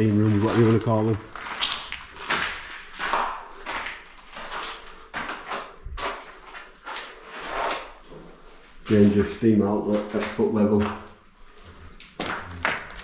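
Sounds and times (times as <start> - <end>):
footsteps crunching on debris: 0.0 - 13.0.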